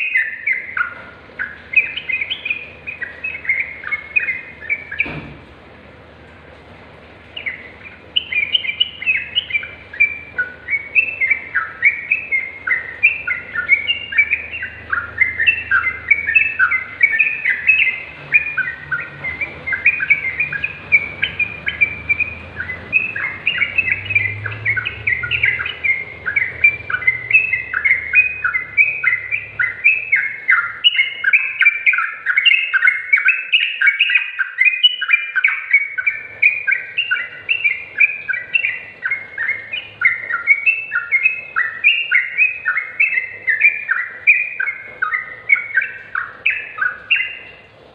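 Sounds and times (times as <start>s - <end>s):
bird chirping song: 0.0s - 5.4s, 7.2s - 47.7s.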